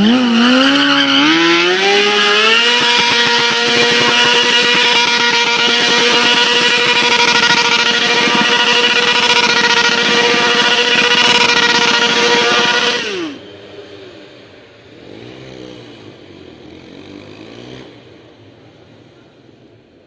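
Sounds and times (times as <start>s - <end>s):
motorcycle engine revving: 0.0s - 14.2s, 14.9s - 18.4s.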